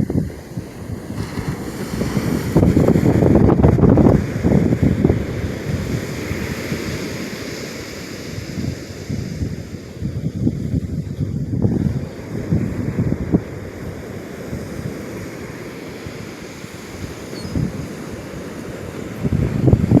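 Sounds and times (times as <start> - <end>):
ocean waves breaking: 0.0 - 20.0
wind buffeting microphone: 0.0 - 20.0.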